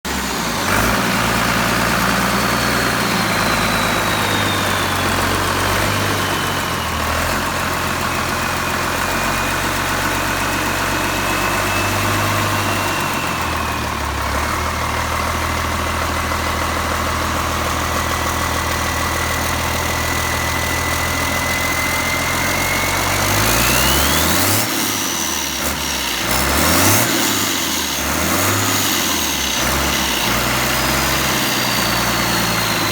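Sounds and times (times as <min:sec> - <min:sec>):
diesel engine running: 0:00.1 - 0:32.9
turbocharger whistling: 0:00.1 - 0:32.9.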